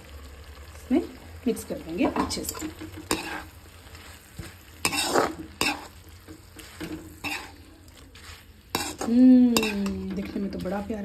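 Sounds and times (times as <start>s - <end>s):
food sizzling: 0.0s - 11.0s
spatula scraping a wok: 2.0s - 11.0s.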